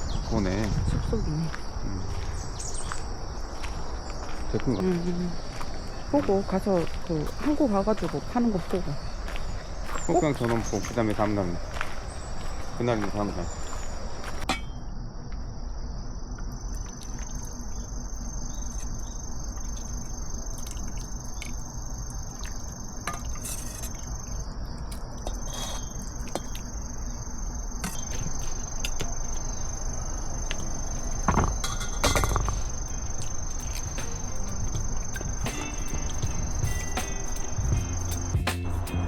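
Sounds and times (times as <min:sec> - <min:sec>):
crickets chirping: 0:00.0 - 0:39.0
low outdoor rumble: 0:00.0 - 0:39.0.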